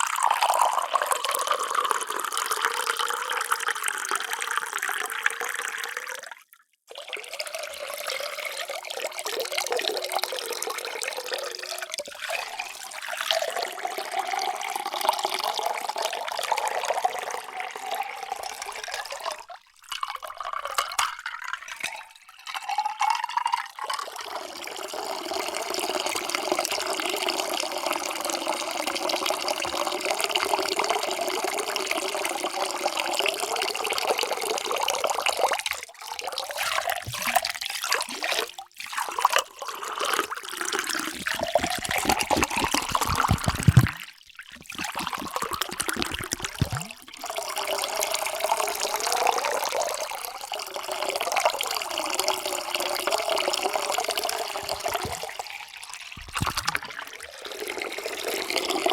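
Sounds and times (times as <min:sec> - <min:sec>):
water pouring into container: 0:00.0 - 0:58.9.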